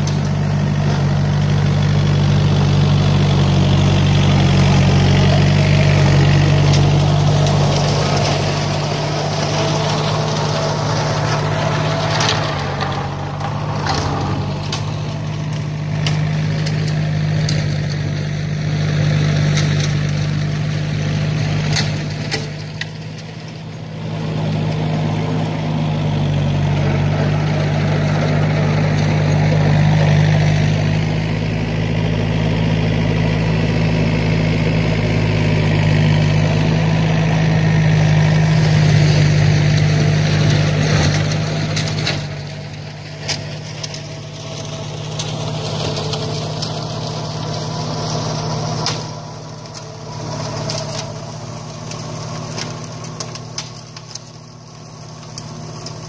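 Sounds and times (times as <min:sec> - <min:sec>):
flail mower cutting weeds: 0:00.0 - 0:56.0
tractor diesel engine running: 0:00.0 - 0:56.0.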